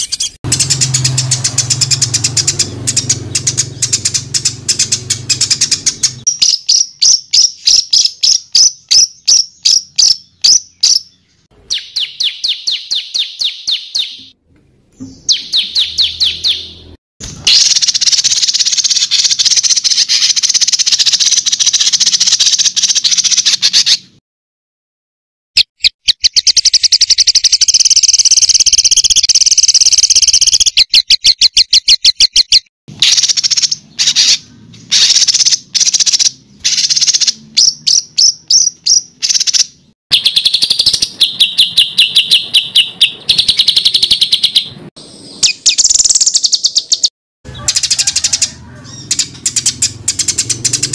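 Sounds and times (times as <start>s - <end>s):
songbird rapid sharp notes: 0.0s - 14.4s, 15.0s - 24.2s, 25.6s - 50.9s.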